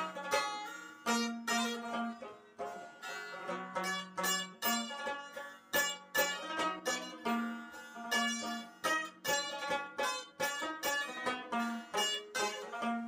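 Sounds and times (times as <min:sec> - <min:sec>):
plucked string instrumental: 0:00.0 - 0:13.0.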